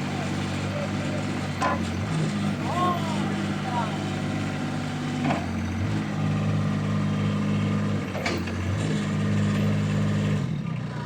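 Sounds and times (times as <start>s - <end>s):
mini excavator engine running: 0.0s - 11.0s.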